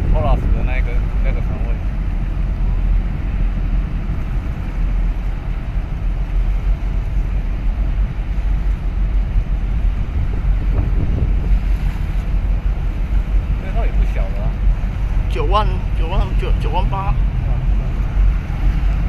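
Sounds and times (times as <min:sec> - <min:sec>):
sea washing: 0:00.0 - 0:19.0
ship engine low rumble: 0:00.0 - 0:19.0
wind buffeting microphone: 0:00.0 - 0:19.0.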